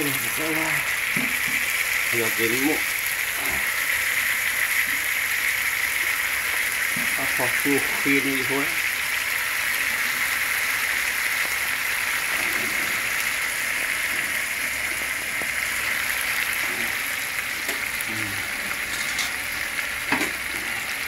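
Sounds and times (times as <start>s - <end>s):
fish frying in a pan: 0.0s - 21.0s.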